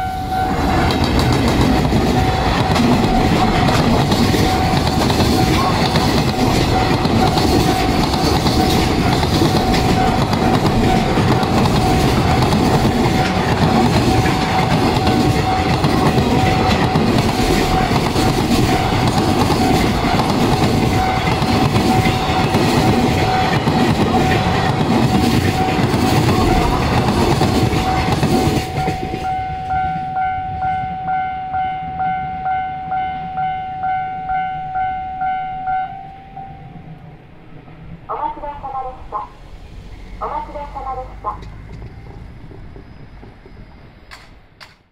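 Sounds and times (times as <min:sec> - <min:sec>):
crossing warning bell ringing: 0:00.0 - 0:37.3
freight train rumbling and clacking: 0:00.0 - 0:44.9.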